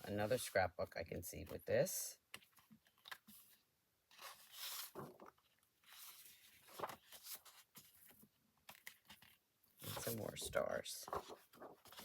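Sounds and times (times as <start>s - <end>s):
paper rustling and crinkling: 2.3s - 12.0s.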